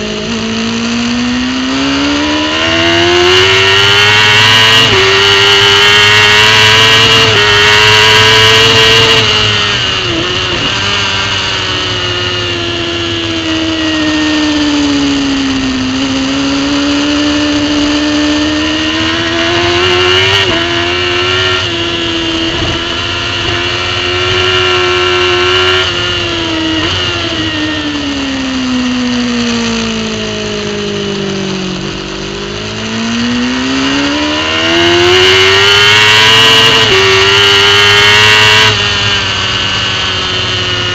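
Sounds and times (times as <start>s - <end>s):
superbike engine revving: 0.0s - 40.9s.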